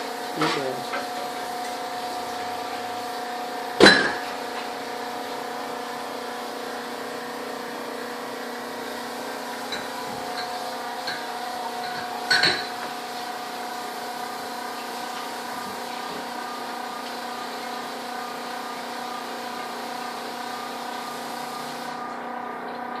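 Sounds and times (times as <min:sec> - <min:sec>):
refrigerator humming: 0:00.0 - 0:23.0.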